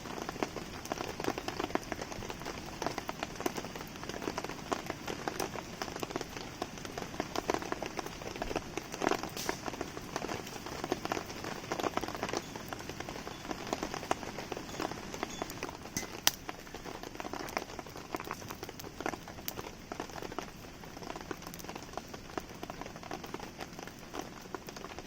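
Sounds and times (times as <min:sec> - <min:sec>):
campfire crackling: 0:00.0 - 0:25.0
rain falling: 0:00.0 - 0:25.0.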